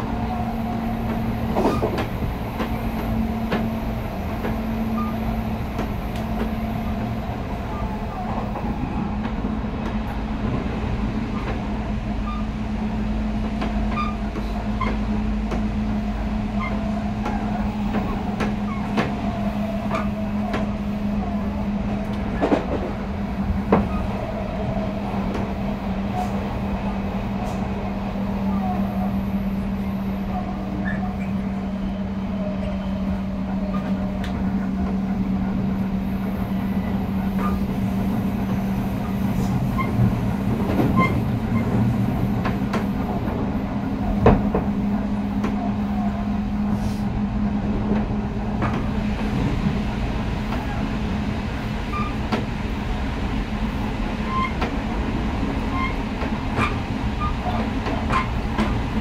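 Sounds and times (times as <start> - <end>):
train running interior hum: 0.0 - 59.0.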